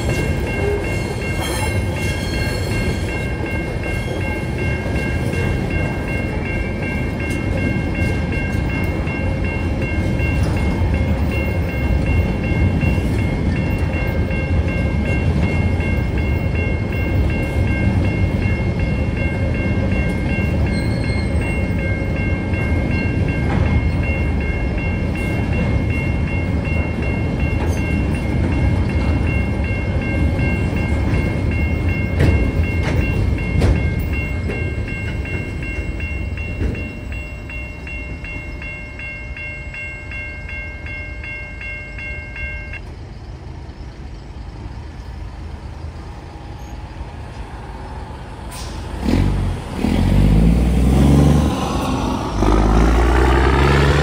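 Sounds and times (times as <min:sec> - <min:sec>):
crossing warning bell dinging: 0:00.0 - 0:54.0
freight train wagons rumbling: 0:00.0 - 0:54.0.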